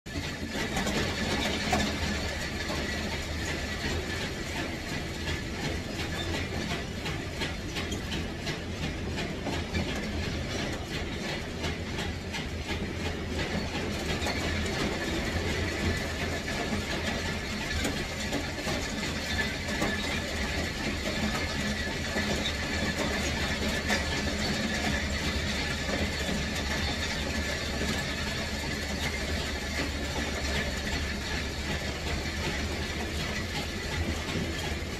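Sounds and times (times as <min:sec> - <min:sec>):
machine running with low hum: 0:00.1 - 0:34.9.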